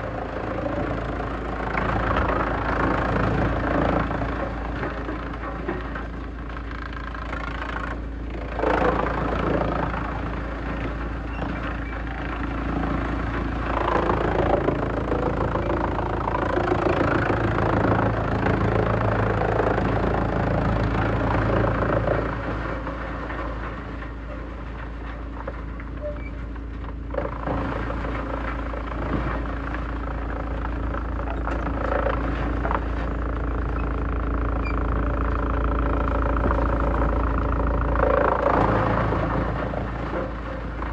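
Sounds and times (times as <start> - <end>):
wood being shredded: 0.0 - 25.8, 26.7 - 40.9
wood shredder engine running: 0.0 - 40.9.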